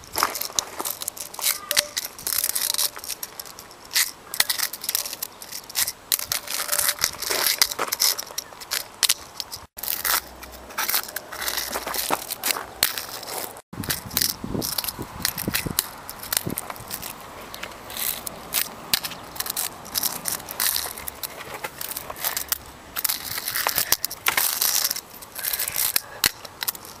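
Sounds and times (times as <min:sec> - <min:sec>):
fingerboard wheels scraping concrete: 0:00.0 - 0:27.0.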